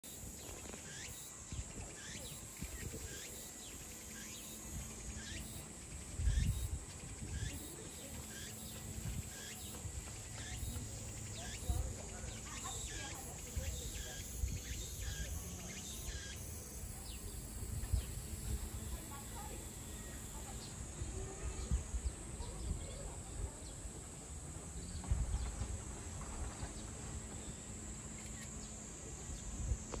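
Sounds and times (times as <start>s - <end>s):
steady high hiss: 0.1s - 24.8s
faint chirps: 0.1s - 30.0s.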